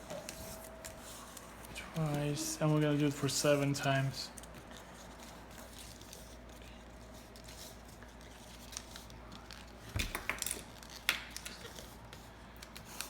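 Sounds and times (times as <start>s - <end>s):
paper being folded and creased: 0.0s - 9.8s, 10.6s - 13.0s
crisp paper crackles: 0.3s - 13.0s.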